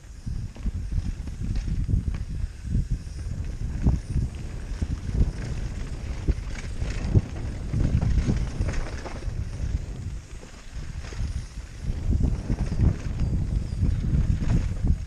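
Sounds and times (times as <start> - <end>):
bike knocking and rattling: 0.0 - 15.0
mountain bike tyres rumbling: 0.0 - 15.0
wind buffeting microphone: 0.0 - 15.0.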